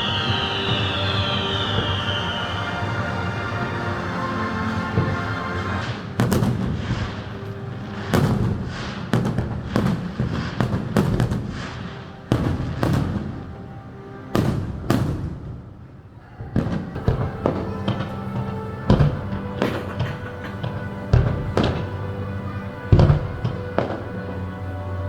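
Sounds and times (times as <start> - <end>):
fireworks bangs and crackles: 0.0 - 4.2, 4.8 - 13.7, 14.3 - 15.8, 16.6 - 24.6
music playing: 0.0 - 25.0.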